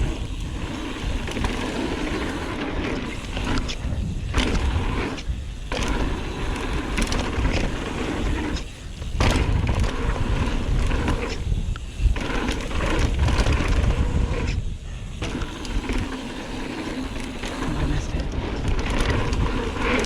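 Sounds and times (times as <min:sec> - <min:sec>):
bike rattling over rough ground: 0:00.0 - 0:20.0
bike tyres on dirt: 0:00.0 - 0:20.0
wind rumble: 0:00.0 - 0:20.0.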